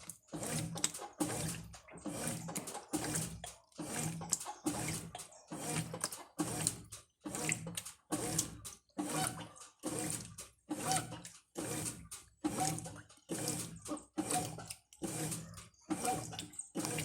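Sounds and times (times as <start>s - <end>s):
washing machine agitating: 0.0s - 17.0s.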